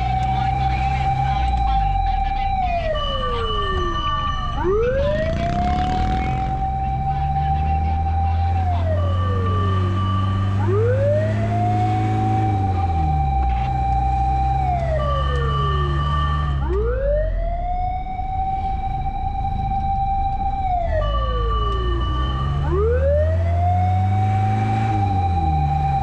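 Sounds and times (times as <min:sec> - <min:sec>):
fire truck siren wailing: 0:00.0 - 0:26.0
truck engine: 0:00.0 - 0:26.0.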